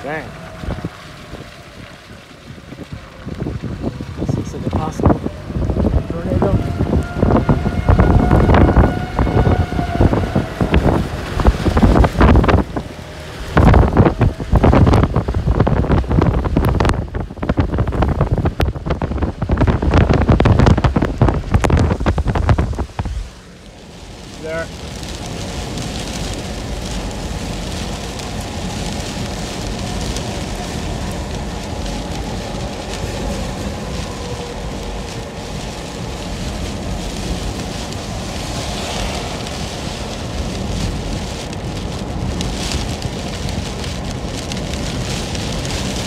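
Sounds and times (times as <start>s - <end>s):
car driving on a wet road: 0.0s - 46.0s
heavy rain on a car: 0.0s - 46.0s.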